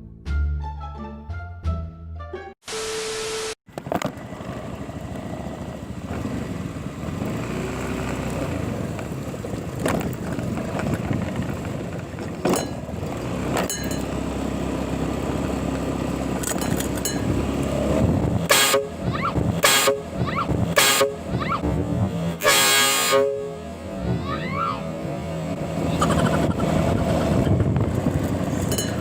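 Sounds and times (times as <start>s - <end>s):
motorcycle engine running: 3.8s - 24.0s, 25.2s - 29.0s.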